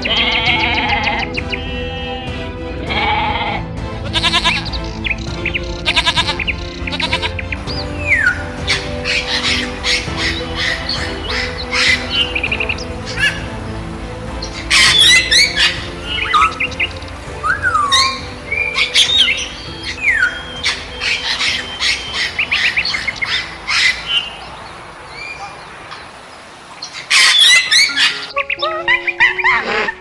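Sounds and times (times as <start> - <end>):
birds chirping and squawking: 2.9 - 28.8.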